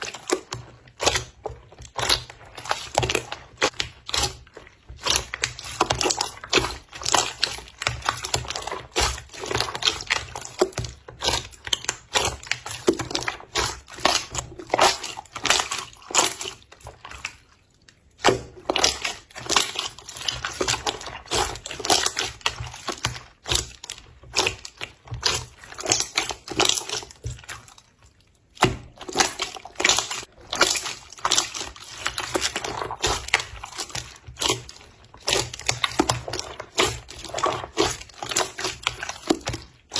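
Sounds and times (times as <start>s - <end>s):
slime squelching by hand: 0.0s - 39.9s.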